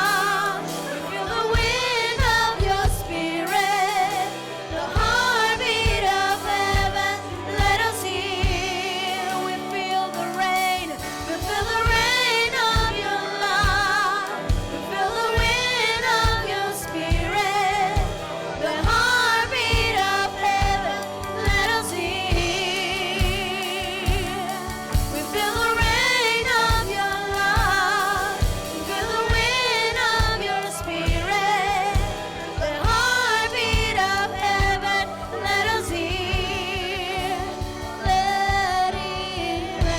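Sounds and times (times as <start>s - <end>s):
band with steady beat: 0.0s - 39.9s.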